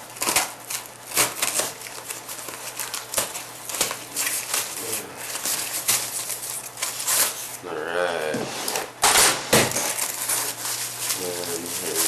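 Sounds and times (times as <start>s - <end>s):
plastic packaging crinkling: 0.0s - 7.6s, 9.5s - 12.0s.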